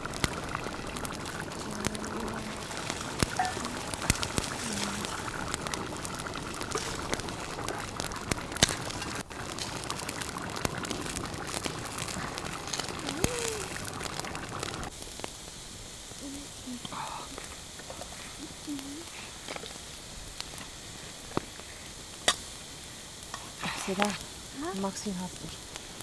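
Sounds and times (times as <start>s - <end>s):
campfire crackling and popping: 0.0s - 26.0s
steady hiss: 0.0s - 26.0s.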